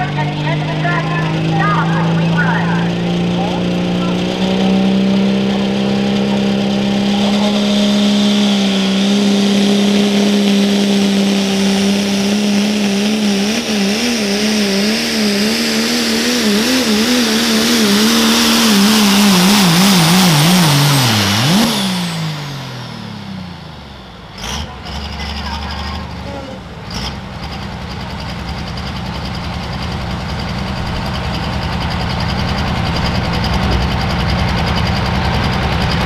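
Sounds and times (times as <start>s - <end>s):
diesel truck engine at high rpm: 0.0s - 36.0s.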